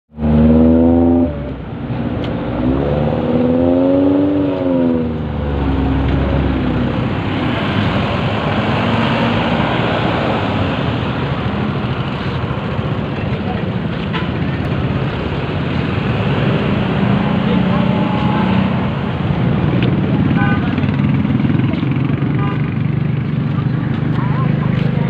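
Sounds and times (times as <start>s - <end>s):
engine and tyre rush: 0.1s - 25.0s
vehicle engines passing: 0.1s - 25.0s.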